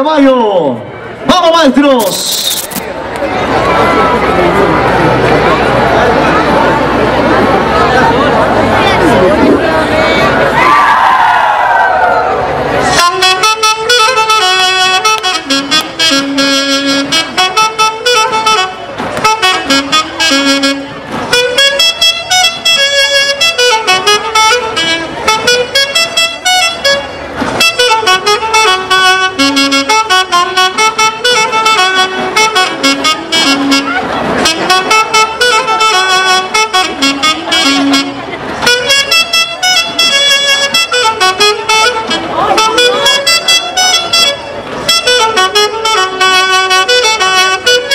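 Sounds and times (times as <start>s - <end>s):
live band with saxophones: 1.9s - 10.6s, 12.5s - 47.9s.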